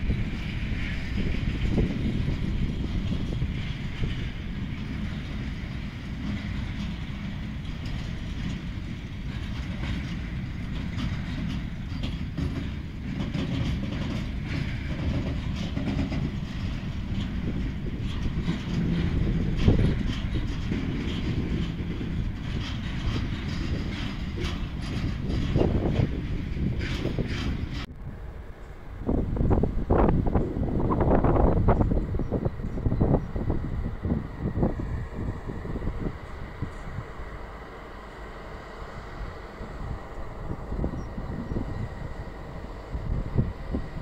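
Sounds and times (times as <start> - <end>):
freight train rumbling: 0.0 - 44.0
wheels clicking on track: 0.0 - 44.0.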